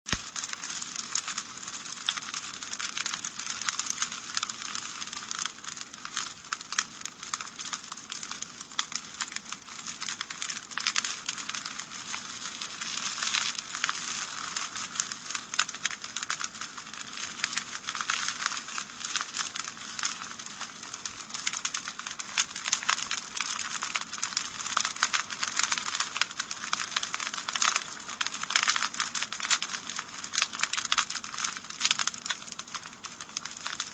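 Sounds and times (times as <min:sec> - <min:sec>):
wood fire crackling: 0:00.1 - 0:33.9.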